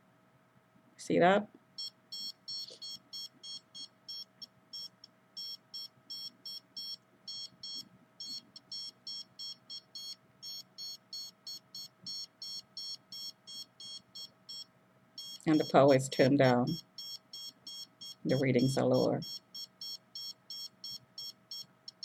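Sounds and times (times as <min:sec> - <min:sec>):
faint steady hum: 0:00.0 - 0:22.0
meter alarm beeping: 0:01.8 - 0:22.0.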